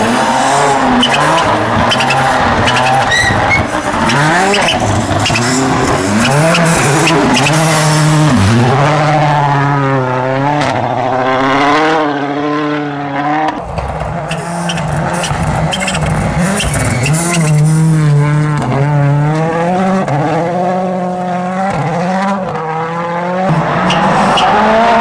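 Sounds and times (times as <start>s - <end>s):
rally engine revving: 0.0s - 25.0s.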